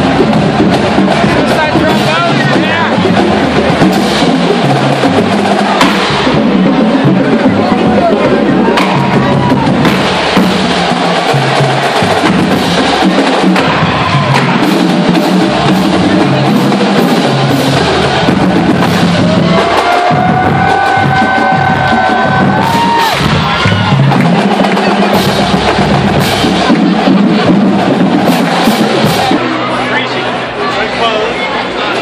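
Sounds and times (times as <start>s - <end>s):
drums beating: 0.0s - 32.0s
marching band playing: 0.0s - 32.0s.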